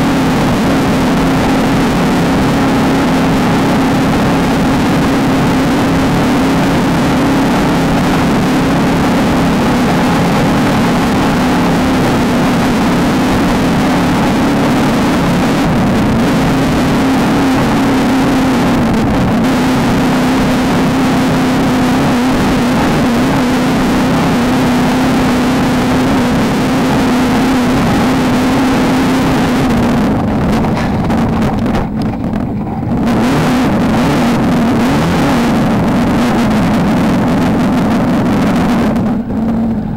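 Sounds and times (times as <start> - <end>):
race car engine revving: 0.0 - 39.9
rush of noise: 0.0 - 39.9.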